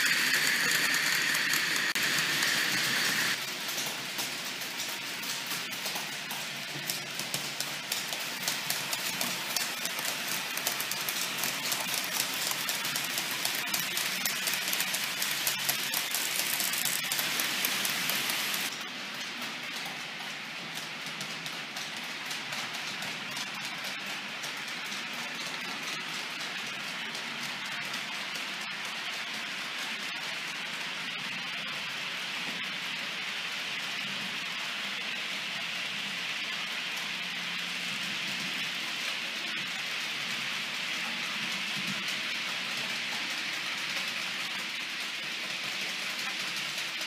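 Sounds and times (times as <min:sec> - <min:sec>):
model train wheels rattling: 0:00.0 - 0:47.0.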